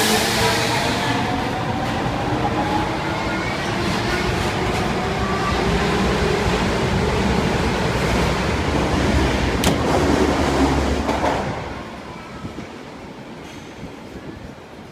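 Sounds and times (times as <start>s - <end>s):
subway train rumbling: 0.0s - 14.9s.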